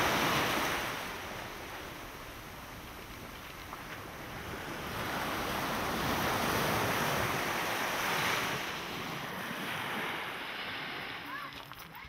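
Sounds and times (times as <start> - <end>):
small waves on sandy beach: 0.0 - 12.0.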